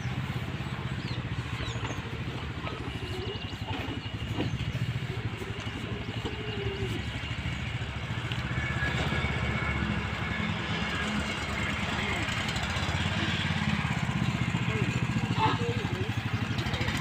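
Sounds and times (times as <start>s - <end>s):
tractor diesel engine chugging: 0.0s - 17.0s.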